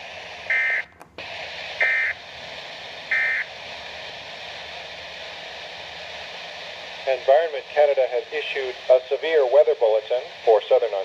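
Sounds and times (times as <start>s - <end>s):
radio broadcast hiss: 0.0s - 11.0s.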